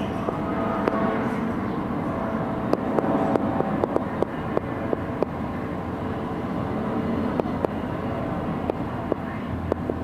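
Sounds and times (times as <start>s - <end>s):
background hubbub: 0.0s - 10.0s.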